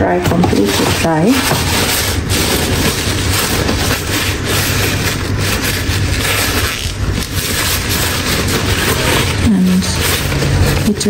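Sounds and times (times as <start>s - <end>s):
low background hum: 0.0s - 11.0s
paper towel rustling and crumpling: 0.0s - 11.0s.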